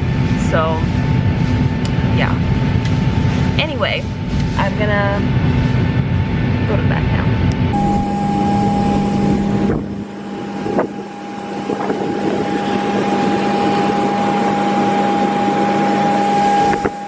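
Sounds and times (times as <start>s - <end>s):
airliner cabin rush and hum: 0.0s - 17.0s
low rumble: 0.0s - 17.0s.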